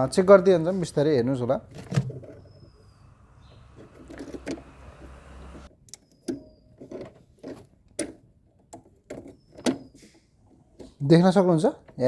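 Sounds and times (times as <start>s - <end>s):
handling clicks and knocks: 1.6s - 12.0s.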